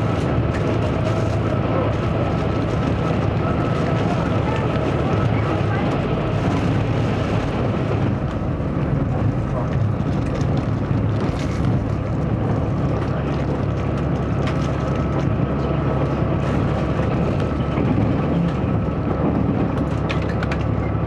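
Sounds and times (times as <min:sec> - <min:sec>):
railcar engine drone: 0:00.0 - 0:21.0
wheels rumbling on rail: 0:00.0 - 0:21.0.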